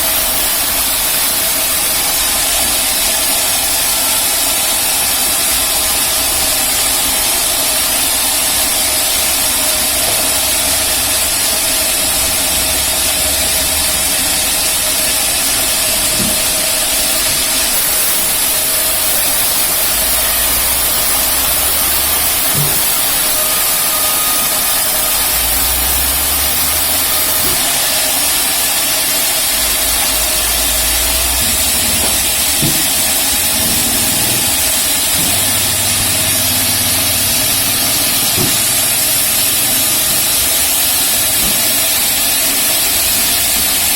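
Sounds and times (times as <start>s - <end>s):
band sawmill running: 0.0s - 43.9s.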